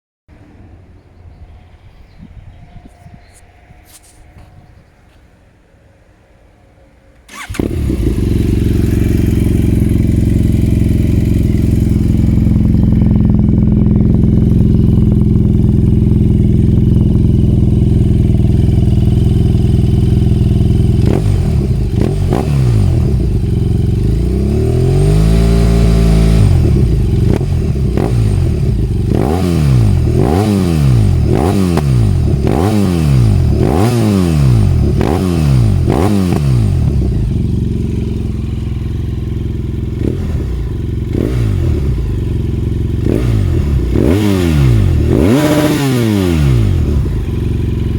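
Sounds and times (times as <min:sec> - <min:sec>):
motorcycle engine idling and revving: 0:07.3 - 0:47.9.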